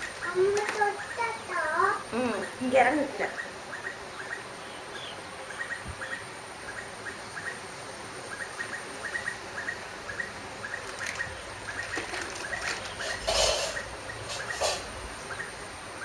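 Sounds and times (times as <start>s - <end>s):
small animal chirping: 0.0s - 7.7s, 8.3s - 15.6s.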